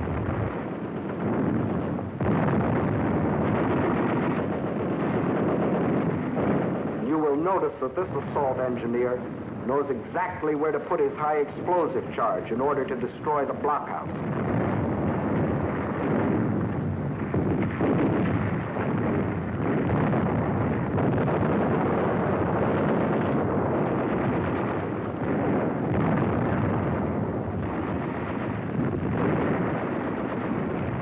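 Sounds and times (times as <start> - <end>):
explosions: 0.0 - 31.0.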